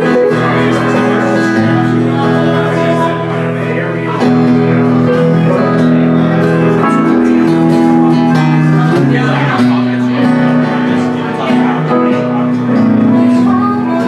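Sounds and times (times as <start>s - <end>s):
country band playing: 0.0s - 14.0s.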